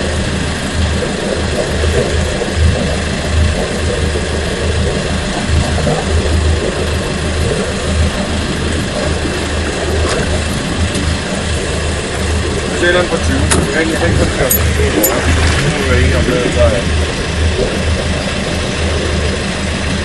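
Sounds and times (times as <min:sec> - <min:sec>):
boat engine idling: 0:00.0 - 0:20.0
uneven low rumble: 0:00.0 - 0:20.0
wind and sea rushing: 0:00.0 - 0:20.0.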